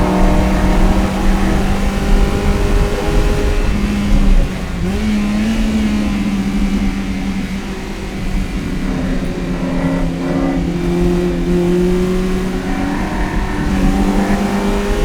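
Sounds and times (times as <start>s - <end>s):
car engine at high revs: 0.0s - 15.0s.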